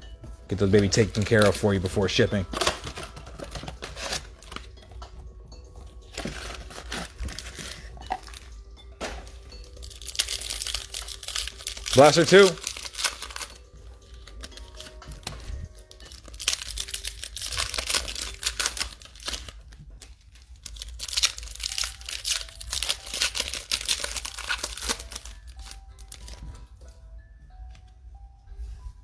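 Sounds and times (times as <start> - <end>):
soft background music: 0.0 - 29.0
plastic wrapping tearing and crinkling: 0.6 - 4.9, 6.1 - 26.6.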